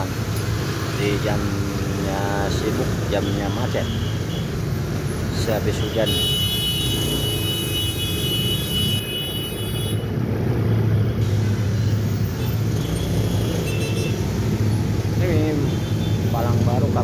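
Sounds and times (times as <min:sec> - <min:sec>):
traffic engines rumbling: 0:00.0 - 0:17.0.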